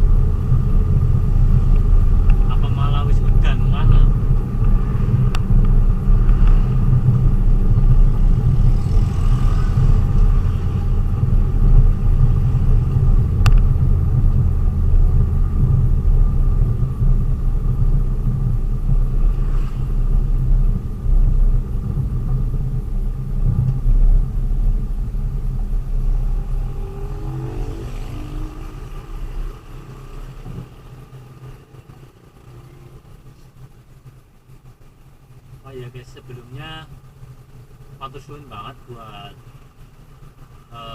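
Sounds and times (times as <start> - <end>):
vehicle engine rumble: 0.0 - 40.9.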